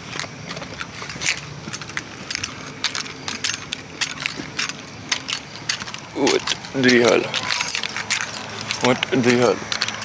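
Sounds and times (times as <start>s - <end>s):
keys jingling and clicking: 0.0s - 10.0s.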